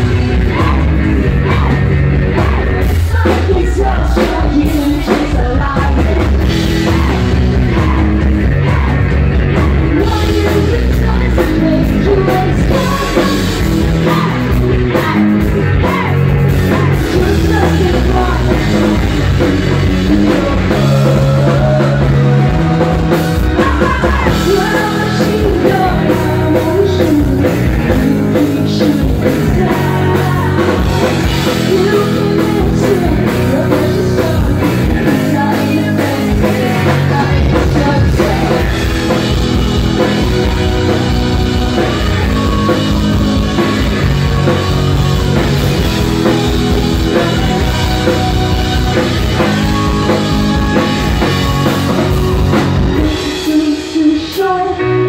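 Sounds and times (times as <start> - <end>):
woman singing: 0.0 - 9.0, 9.6 - 55.0
bass guitar: 0.0 - 55.0
drum kit: 0.0 - 55.0
electric guitar: 0.0 - 55.0.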